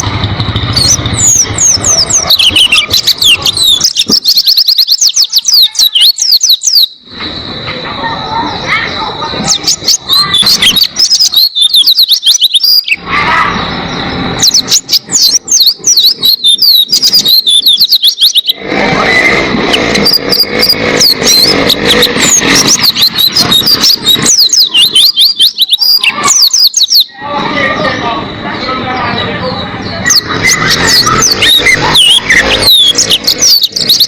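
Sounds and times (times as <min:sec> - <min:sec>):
bird twittering chirps: 0:00.0 - 0:34.0
lower noisy sound: 0:00.0 - 0:34.0.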